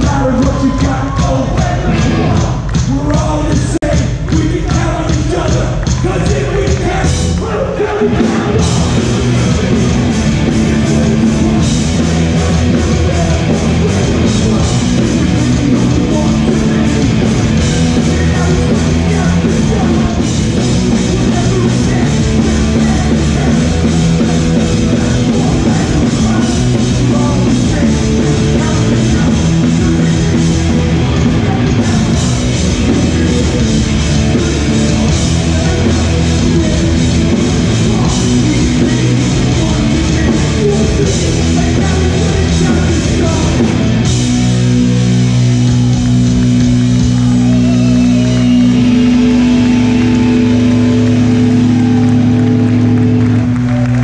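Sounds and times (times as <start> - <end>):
punk band playing live: 0.0 - 54.0.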